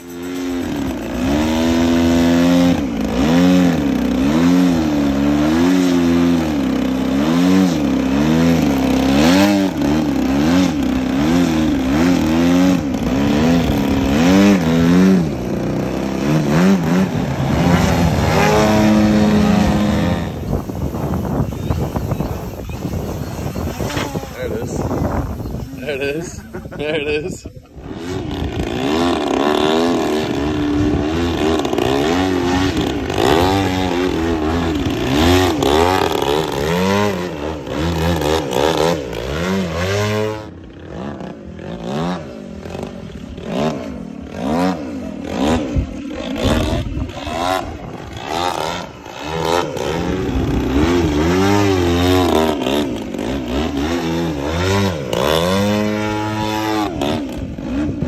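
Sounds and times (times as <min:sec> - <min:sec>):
model airplane motor and propeller: 0:00.0 - 0:58.0.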